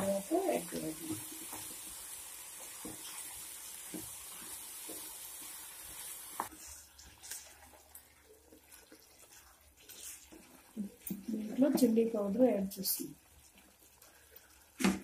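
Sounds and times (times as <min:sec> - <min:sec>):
vegetables sizzling in a pan: 0:00.0 - 0:07.9, 0:08.6 - 0:15.0.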